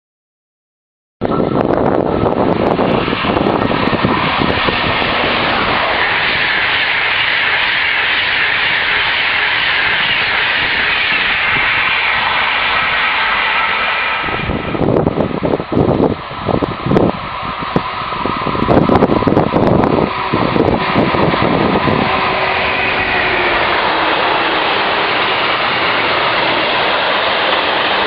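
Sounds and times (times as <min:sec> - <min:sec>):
wind buffeting microphone: 0:01.2 - 0:28.0
train passing at speed: 0:01.3 - 0:28.0.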